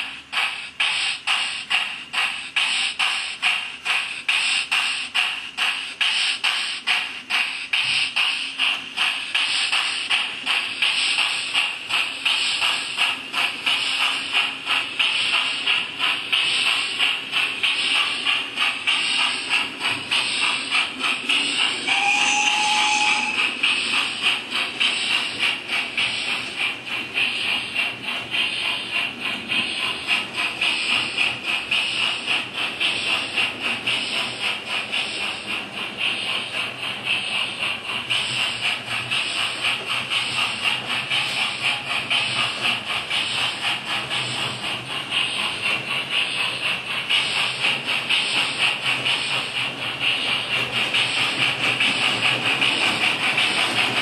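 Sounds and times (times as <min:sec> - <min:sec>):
model steam locomotive chuffing: 0:00.0 - 0:54.0.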